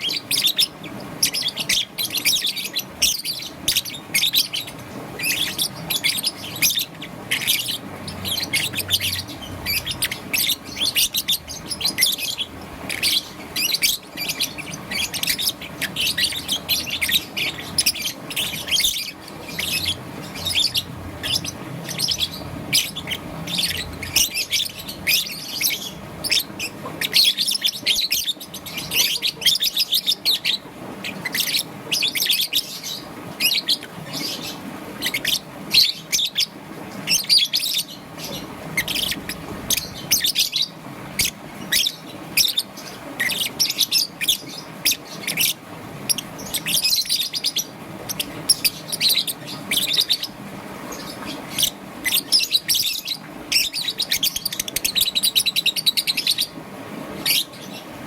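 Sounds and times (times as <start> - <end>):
lovebird chirping: 0.0 - 56.6.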